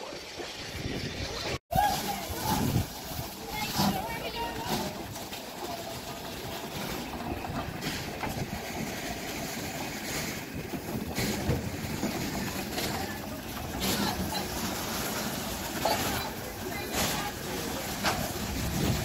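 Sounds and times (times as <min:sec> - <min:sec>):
steam locomotive standing: 0:02.6 - 0:19.0.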